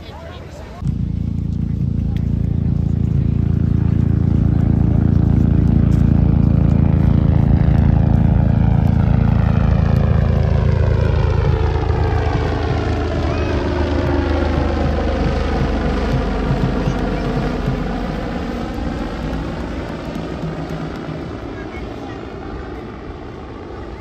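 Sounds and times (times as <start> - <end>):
propeller aircraft engine drone: 0.0 - 24.0.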